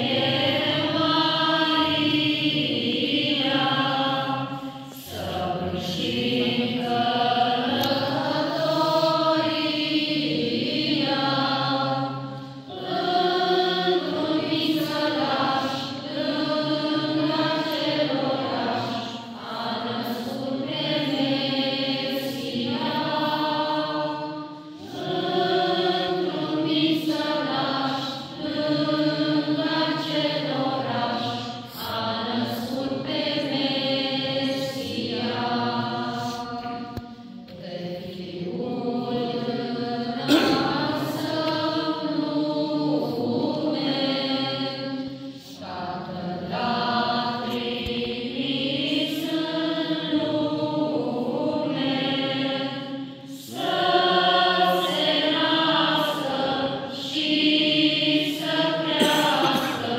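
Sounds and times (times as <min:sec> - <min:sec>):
group singing unaccompanied carol: 0:00.0 - 0:59.9.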